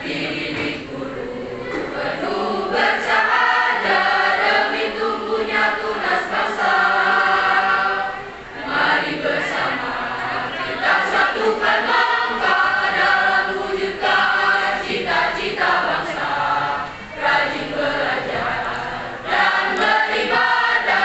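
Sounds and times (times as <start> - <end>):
choir singing a march: 0.0 - 21.0.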